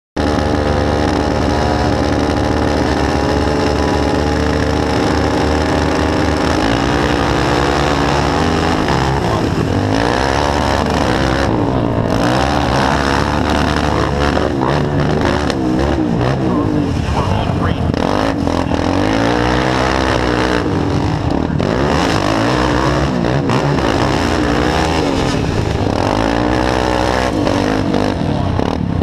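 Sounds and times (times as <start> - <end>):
quad bike engine revving: 0.2 - 29.0.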